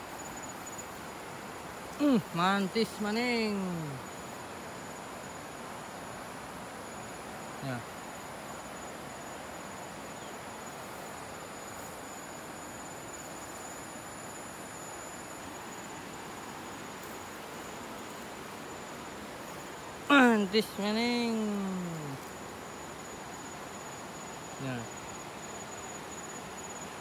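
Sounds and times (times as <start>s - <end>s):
constant hiss: 0.0s - 27.0s
insect chorus high whine: 0.0s - 27.0s.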